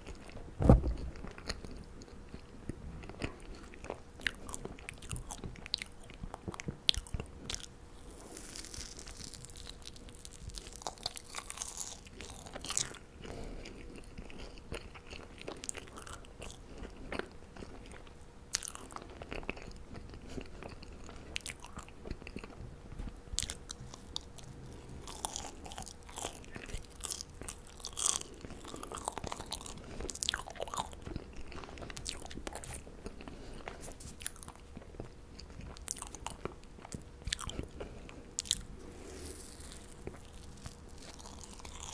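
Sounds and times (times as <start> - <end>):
chewing marshmallows: 1.0 - 41.9.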